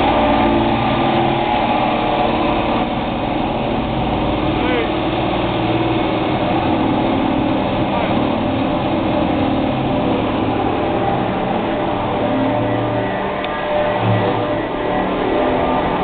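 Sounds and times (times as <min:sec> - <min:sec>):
construction machinery running: 0:00.0 - 0:16.0.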